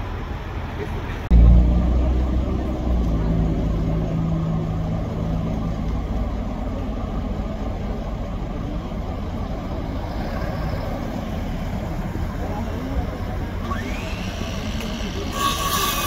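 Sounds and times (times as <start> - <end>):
low engine hum: 0.0 - 15.3
vehicles passing: 0.0 - 16.0.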